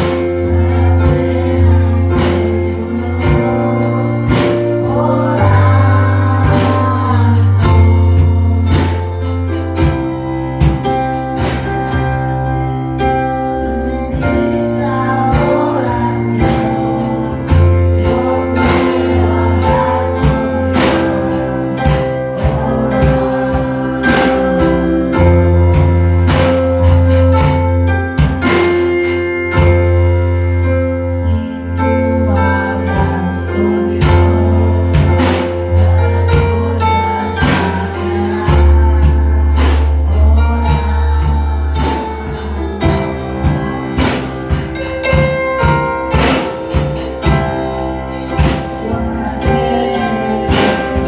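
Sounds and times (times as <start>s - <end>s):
person singing into a microphone: 0.0s - 9.9s, 13.6s - 26.4s, 31.0s - 51.0s
drums playing a steady beat: 0.0s - 31.0s, 32.0s - 51.0s
electric keyboard: 0.0s - 51.0s.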